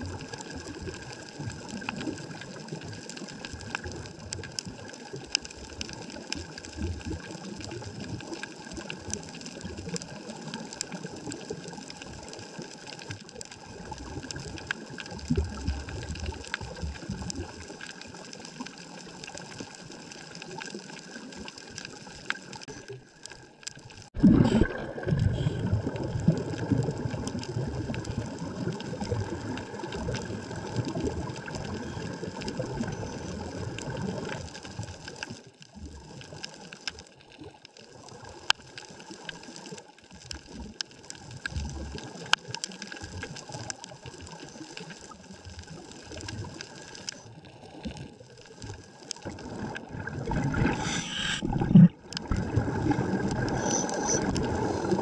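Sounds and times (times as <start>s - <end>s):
faint clicks and crackles: 0.0s - 55.0s
low rumble of water: 0.0s - 55.0s
underwater water movement: 0.0s - 55.0s.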